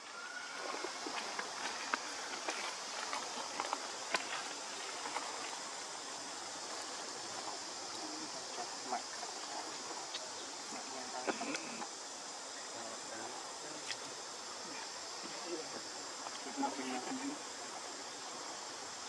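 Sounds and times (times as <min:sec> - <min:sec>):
insects hissing: 0:00.0 - 0:19.0.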